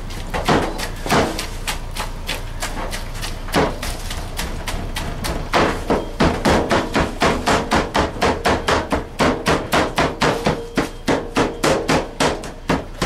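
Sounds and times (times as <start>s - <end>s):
blades chopping meat on cutting board: 0.1s - 13.0s.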